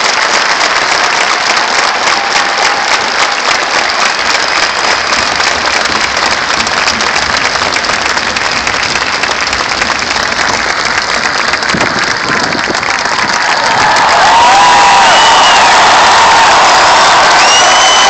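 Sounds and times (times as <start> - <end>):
stadium crowd applauding: 0.0 - 18.0.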